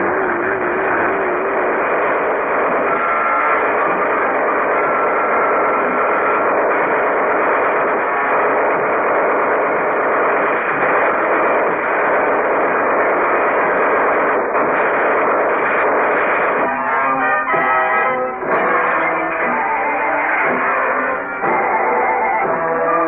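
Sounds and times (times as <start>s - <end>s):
mechanical din: 0.0s - 23.0s.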